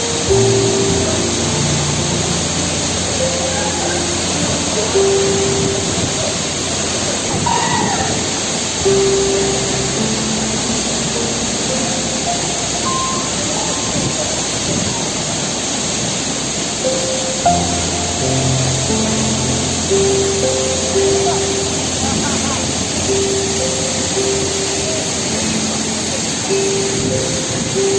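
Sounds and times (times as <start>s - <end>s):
soft background music: 0.0s - 27.9s
waterfall rushing: 0.0s - 27.9s.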